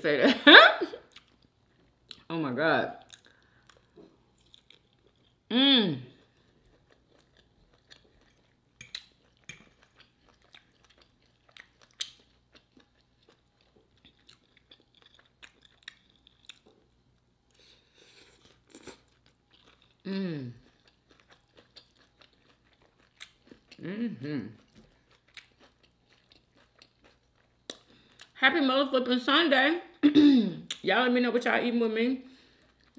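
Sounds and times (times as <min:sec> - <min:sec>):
chewing and crunching: 0:01.0 - 0:02.3, 0:03.0 - 0:05.5, 0:06.1 - 0:28.4, 0:32.4 - 0:32.9.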